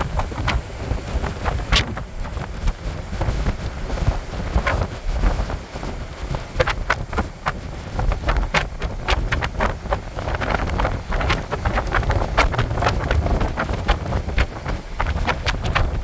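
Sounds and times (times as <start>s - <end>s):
surf breaking on shore: 0.0s - 16.0s
wind buffeting microphone: 0.0s - 16.0s.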